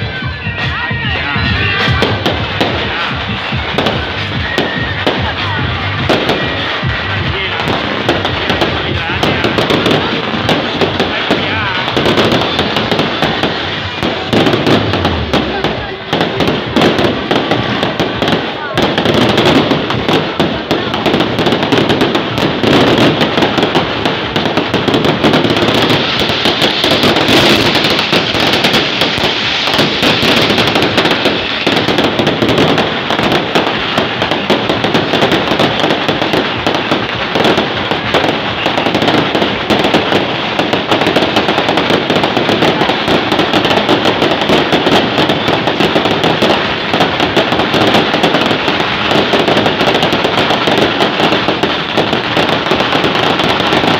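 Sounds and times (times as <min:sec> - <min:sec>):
firecrackers and fireworks banging: 0:00.0 - 0:53.9.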